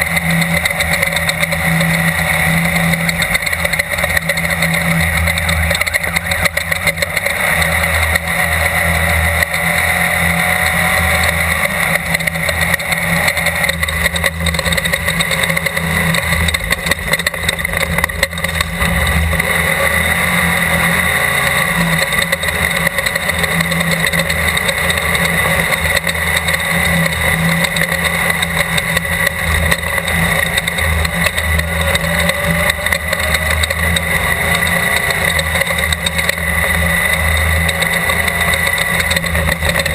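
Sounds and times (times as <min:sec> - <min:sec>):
loud rush of noise: 0:00.0 - 0:39.9
race car engine running hard: 0:00.0 - 0:39.9.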